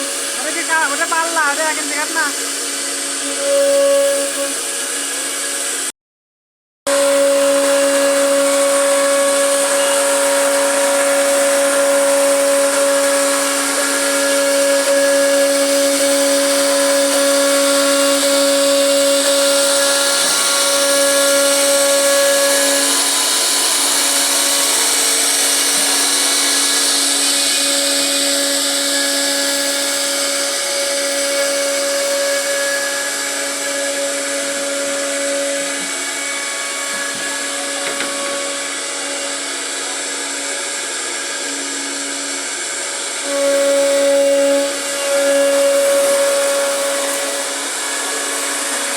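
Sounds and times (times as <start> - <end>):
hiss of cutting wood: 0.0 - 5.9, 7.0 - 41.6, 42.8 - 48.9
router spindle whining: 0.0 - 5.9, 6.9 - 48.9.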